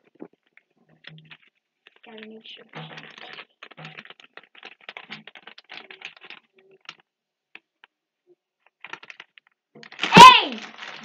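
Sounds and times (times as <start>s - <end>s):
paper crinkling: 0.0s - 8.0s, 8.6s - 11.0s.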